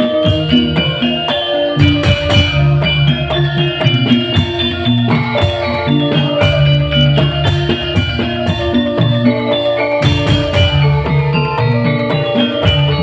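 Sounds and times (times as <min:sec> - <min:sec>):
drum beat: 0:00.0 - 0:13.0
held melody notes: 0:00.0 - 0:13.0.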